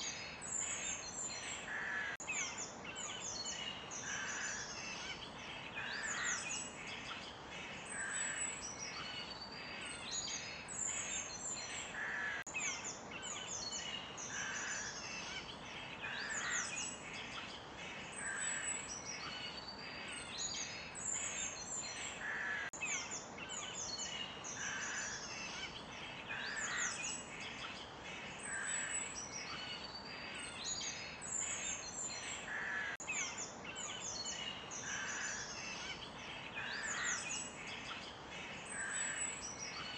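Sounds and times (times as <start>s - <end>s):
forest birds singing: 0.0s - 39.9s
steady background hiss: 0.0s - 39.9s.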